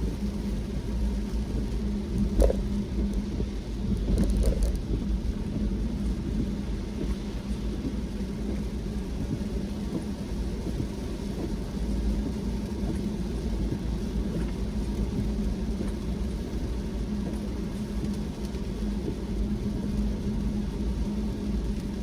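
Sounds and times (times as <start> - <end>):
car engine and tyre rumble: 0.0 - 22.0
steady hum: 0.0 - 22.0.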